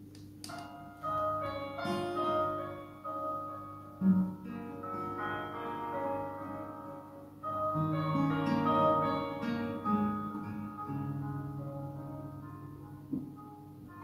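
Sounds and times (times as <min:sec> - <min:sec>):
acoustic guitar picked chords: 0:00.6 - 0:14.0.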